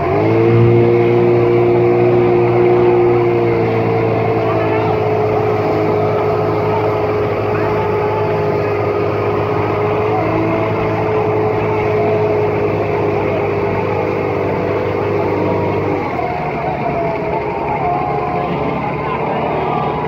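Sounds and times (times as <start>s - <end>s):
motorboat engine running: 0.0s - 20.0s
voices: 0.0s - 20.0s.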